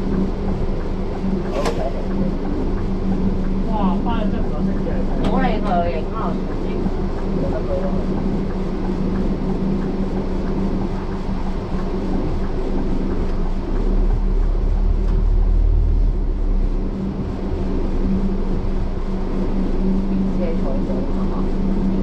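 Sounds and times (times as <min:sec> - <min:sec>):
coach engine hum: 0:00.0 - 0:22.0
deeper rumble: 0:00.0 - 0:22.0
road noise: 0:00.0 - 0:22.0.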